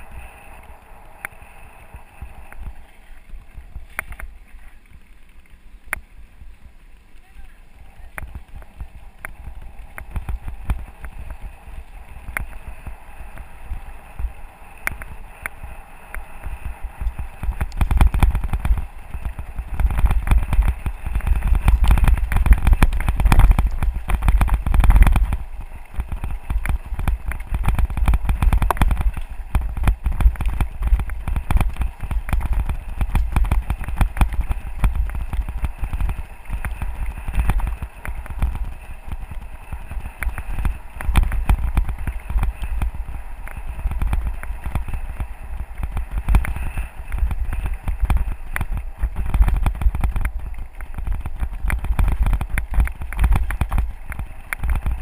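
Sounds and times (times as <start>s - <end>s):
bike rattling over stones: 0.0s - 55.0s
bike tyres crunching on gravel: 0.0s - 55.0s.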